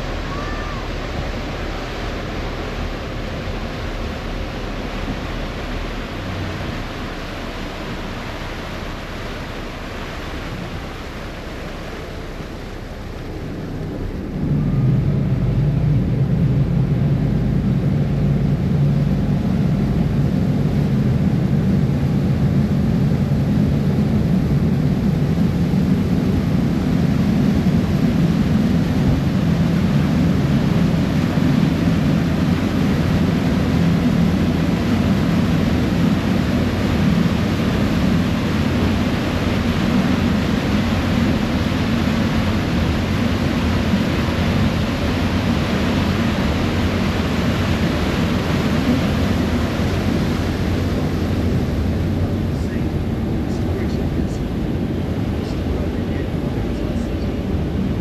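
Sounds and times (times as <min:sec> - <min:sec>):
ferry engine drone: 0:00.0 - 0:58.0
rushing water in wake: 0:00.0 - 0:58.0.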